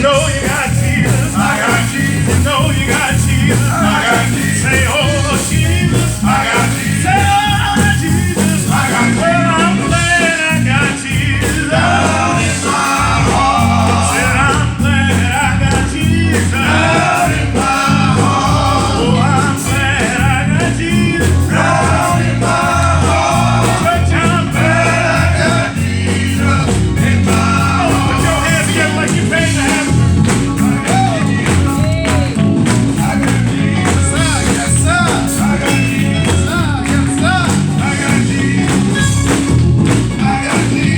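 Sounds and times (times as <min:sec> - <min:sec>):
band with bass and drums: 0:00.0 - 0:40.9
people singing gospel: 0:00.0 - 0:40.9.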